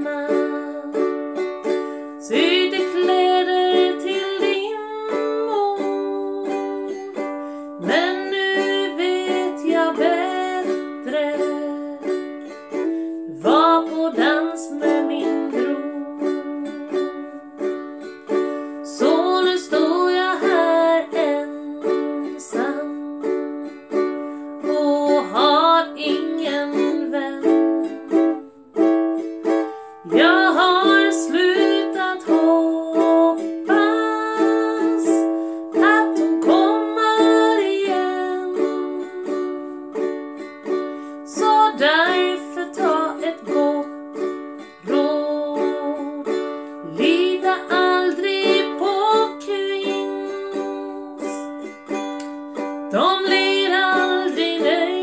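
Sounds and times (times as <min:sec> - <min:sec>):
woman singing: 0:00.0 - 0:28.8, 0:29.6 - 0:55.0
ukulele strumming: 0:00.0 - 0:55.0.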